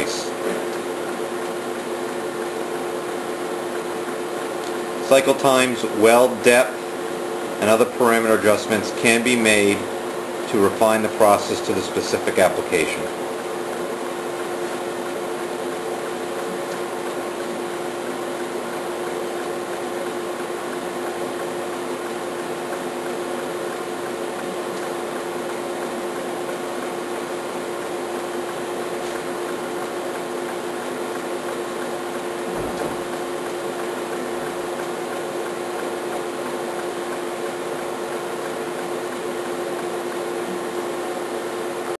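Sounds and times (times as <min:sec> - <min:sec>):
laser welding machine hum: 0:00.0 - 0:42.0.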